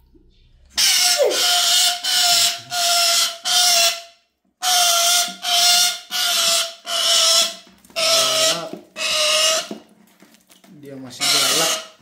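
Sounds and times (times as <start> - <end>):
parrot screeching: 0.8 - 9.8, 11.1 - 12.0.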